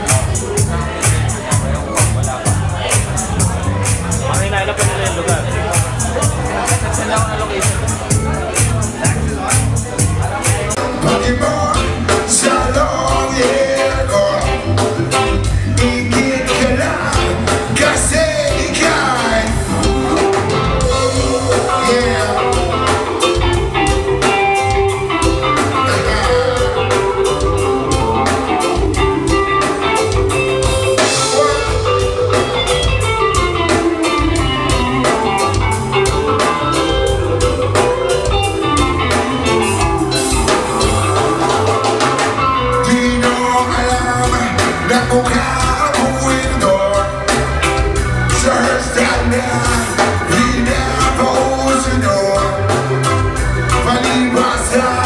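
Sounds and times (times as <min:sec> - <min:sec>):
drum kit beat: 0:00.0 - 0:55.0
guitar: 0:00.0 - 0:55.0
person singing: 0:05.7 - 0:55.0.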